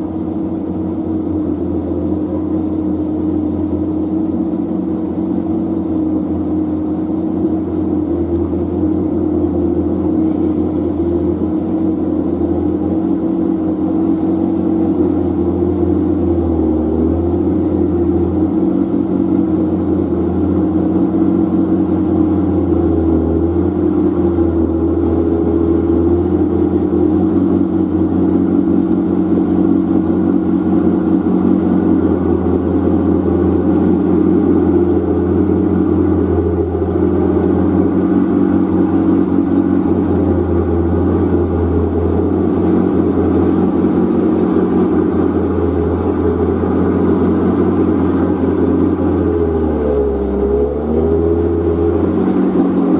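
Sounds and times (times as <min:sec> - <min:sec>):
truck engine droning: 0:00.0 - 0:52.9.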